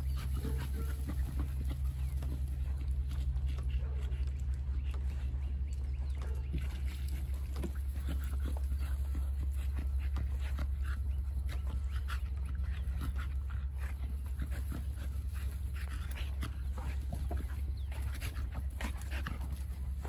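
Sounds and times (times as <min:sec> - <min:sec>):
dog play noises: 0:00.0 - 0:20.0
dogs panting: 0:00.0 - 0:20.0
steady low hum: 0:00.0 - 0:20.0.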